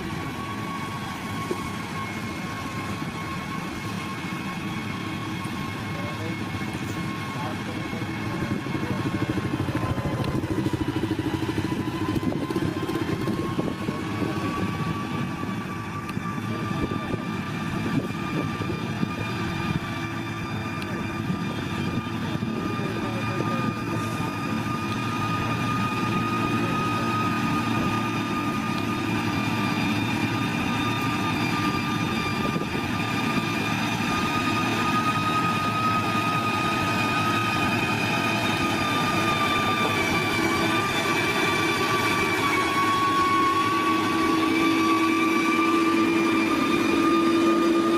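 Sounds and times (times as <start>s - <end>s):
diesel engine rumble: 0.0s - 47.9s
high whine: 0.0s - 47.9s.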